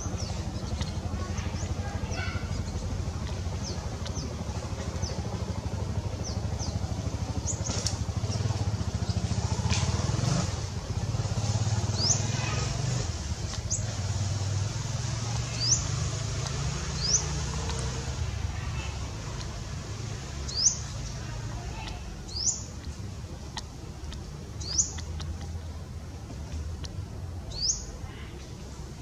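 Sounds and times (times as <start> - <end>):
small birds chirping: 0.0 - 29.0
vehicle engine humming: 0.0 - 29.0.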